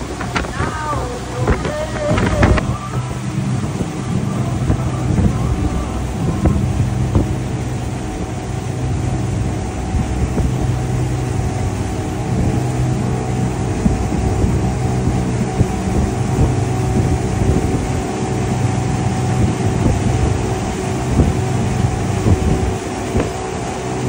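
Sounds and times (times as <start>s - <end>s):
outboard motors droning: 0.0s - 24.0s
water rushing: 0.0s - 24.0s
wind: 0.0s - 24.0s.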